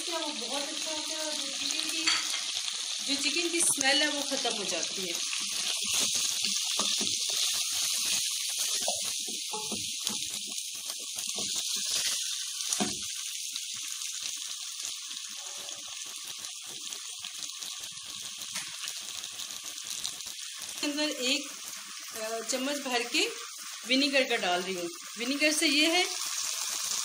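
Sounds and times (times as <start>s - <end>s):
chicken sizzling in a pot: 0.0s - 27.0s.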